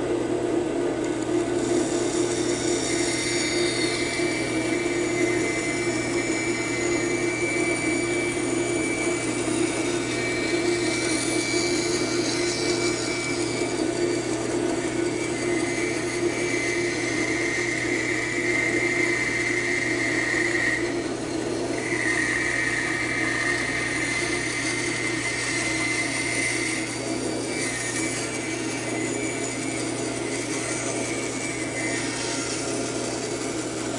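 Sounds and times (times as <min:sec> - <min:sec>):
band saw cutting whine: 0:00.0 - 0:33.9
band saw running: 0:00.0 - 0:33.9.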